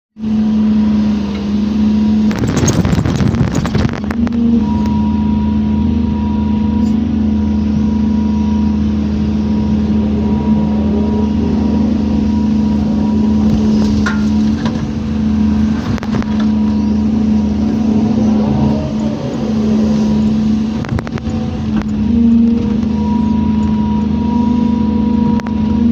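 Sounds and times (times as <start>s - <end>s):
excavator diesel engine running: 0.2s - 25.9s.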